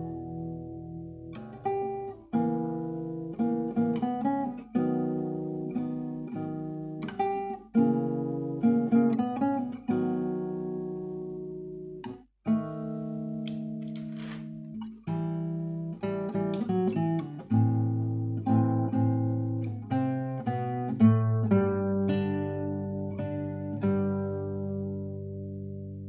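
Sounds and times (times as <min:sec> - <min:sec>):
acoustic guitar plucking: 0:00.0 - 0:26.0.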